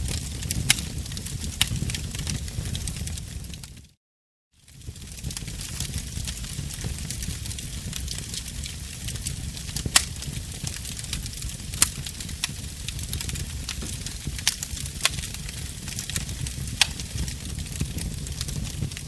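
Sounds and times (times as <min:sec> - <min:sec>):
sharp pops from fire: 0:00.0 - 0:03.7, 0:04.7 - 0:19.0
low rumble of flame: 0:00.0 - 0:04.0, 0:04.6 - 0:19.0
wood fire crackling: 0:00.0 - 0:04.0, 0:04.6 - 0:19.0.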